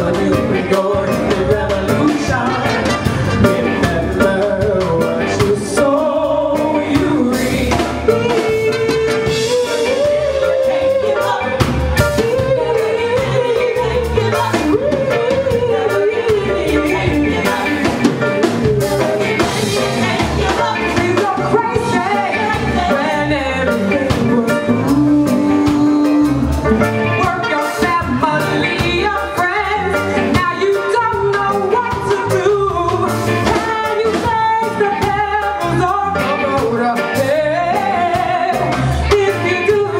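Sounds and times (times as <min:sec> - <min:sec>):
person singing: 0:00.0 - 0:39.9
reggae band playing: 0:00.0 - 0:39.9.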